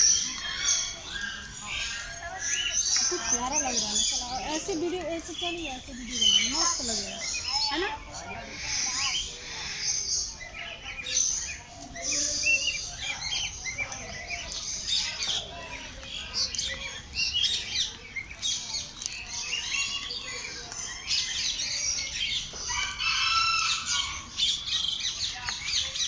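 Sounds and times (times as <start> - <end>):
birds chirping in chorus: 0.0 - 26.0.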